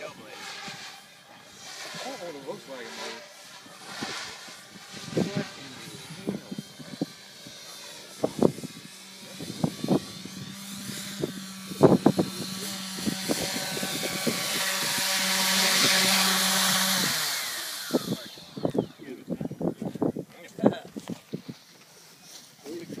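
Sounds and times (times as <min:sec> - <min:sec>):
quadcopter rotors humming: 0:00.0 - 0:23.0.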